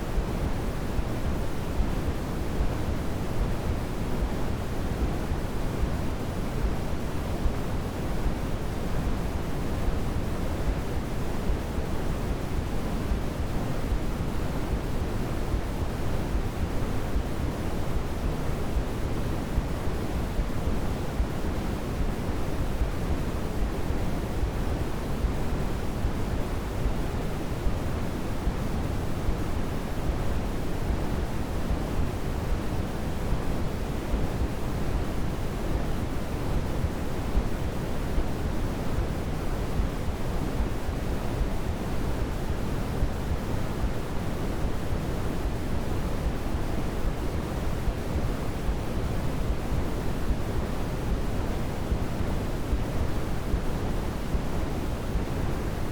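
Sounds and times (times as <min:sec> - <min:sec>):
steady white noise: 0:00.0 - 0:55.9.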